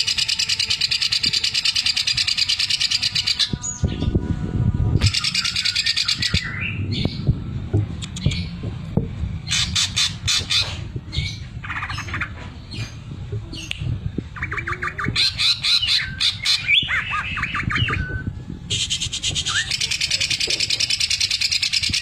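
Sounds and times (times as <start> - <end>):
bird singing chirps and trills: 0.0 - 4.2, 5.0 - 7.4, 9.4 - 22.0.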